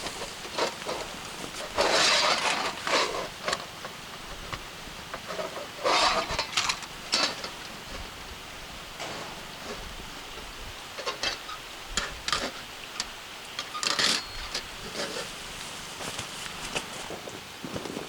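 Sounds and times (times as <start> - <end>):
rustling and scraping: 0.0 - 8.2, 8.9 - 18.0.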